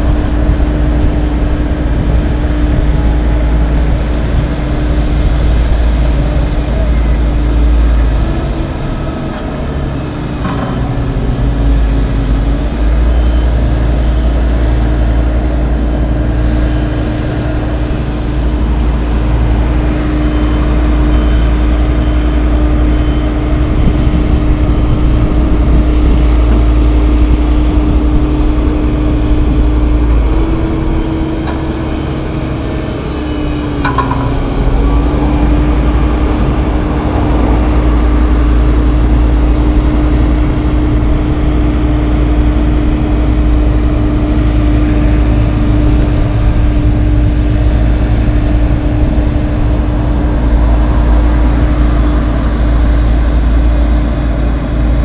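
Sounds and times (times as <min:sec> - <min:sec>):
diesel engines rumbling: 0:00.0 - 0:55.0.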